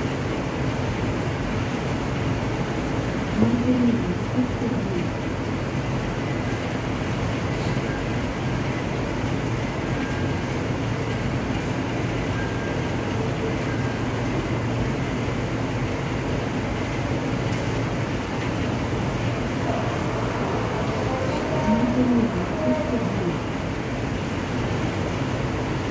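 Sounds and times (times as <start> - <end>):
heavy rain on pavement: 0.0 - 22.7.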